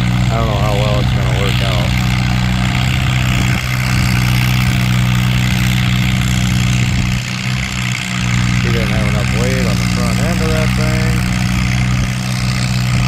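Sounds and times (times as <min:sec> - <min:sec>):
tractor engine droning under load: 0:00.0 - 0:13.0.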